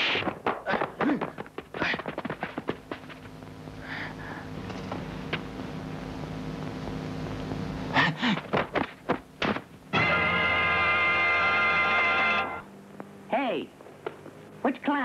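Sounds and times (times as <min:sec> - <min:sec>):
tape hum: 0:01.2 - 0:14.7.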